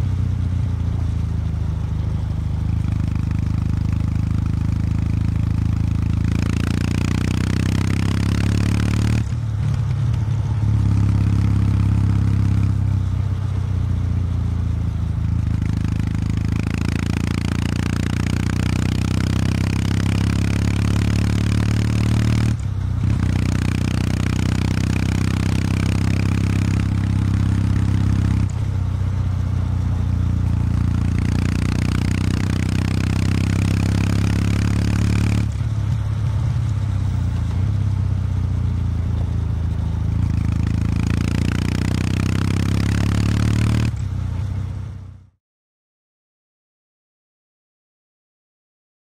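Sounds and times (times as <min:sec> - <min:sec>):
motorcycle engine running: 0:00.0 - 0:45.4.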